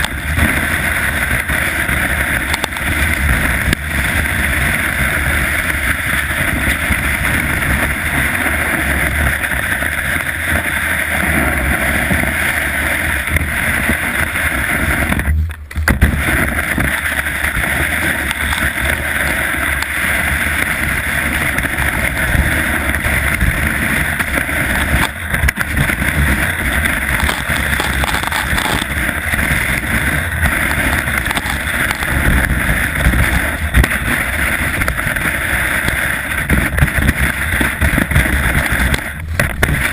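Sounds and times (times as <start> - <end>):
wind buffeting microphone: 0.0 - 39.9
skis hissing over snow: 0.1 - 15.3, 16.0 - 39.9.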